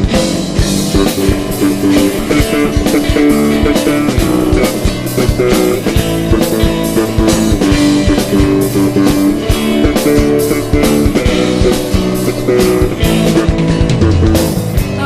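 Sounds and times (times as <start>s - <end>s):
drum kit beat: 0.0s - 15.0s
electric guitar: 0.0s - 15.0s
gospel band music: 0.0s - 15.0s.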